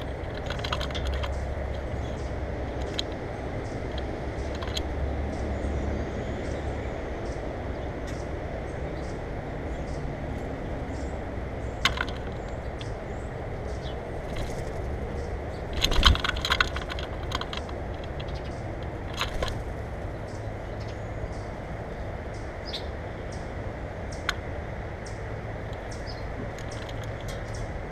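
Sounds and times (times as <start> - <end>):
birds tapping on feeder: 0.0 - 5.6, 9.8 - 21.6, 22.2 - 27.9
steady low rumble: 0.0 - 27.9.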